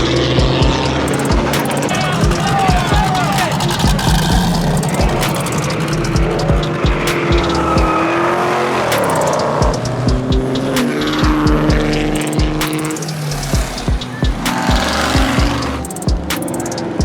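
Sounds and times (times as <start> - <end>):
car engine revving: 0.0 - 17.0
tyres squealing: 0.1 - 17.0.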